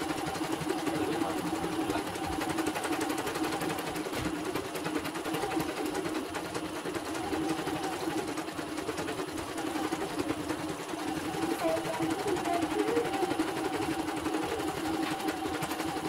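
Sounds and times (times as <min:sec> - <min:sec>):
embroidery machine stitching: 0:00.0 - 0:16.0.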